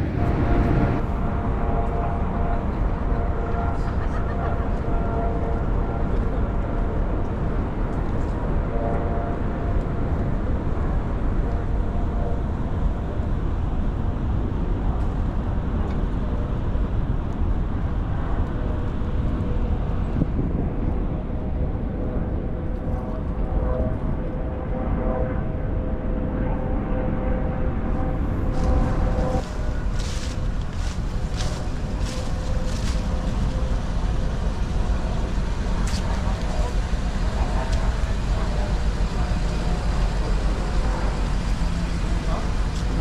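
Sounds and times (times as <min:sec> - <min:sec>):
wind buffeting microphone: 0:00.0 - 0:04.1, 0:05.4 - 0:43.0.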